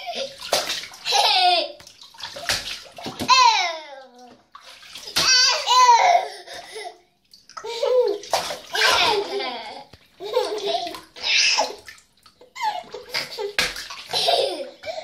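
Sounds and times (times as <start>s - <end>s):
bathwater splashing: 0.0s - 15.0s.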